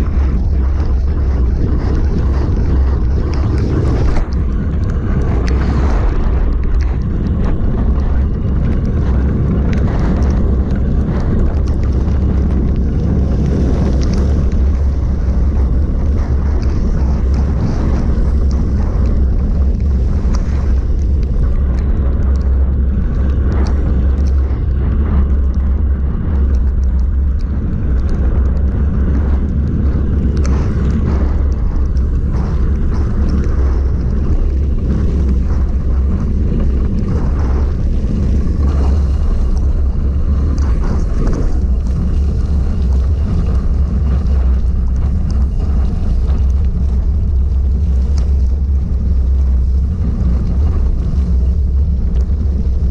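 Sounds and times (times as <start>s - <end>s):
bike tyres on wet gravel: 0.0s - 52.9s
wind buffeting microphone: 0.0s - 52.9s.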